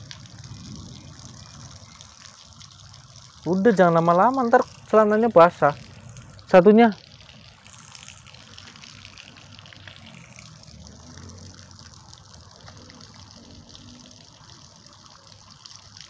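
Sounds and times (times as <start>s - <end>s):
water running from tap: 0.0s - 16.0s
water splashing on wet ground: 0.0s - 16.0s.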